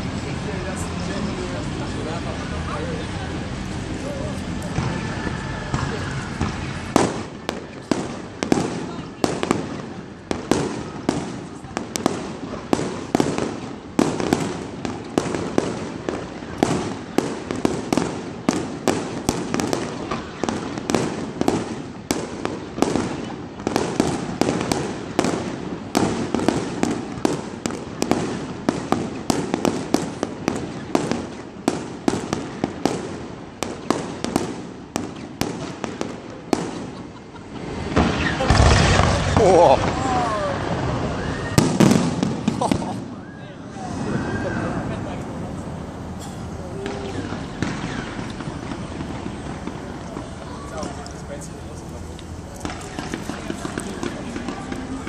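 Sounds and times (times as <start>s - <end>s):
fireworks bursting with sharp bangs: 0.0s - 55.0s
fireworks crackling: 0.0s - 55.0s.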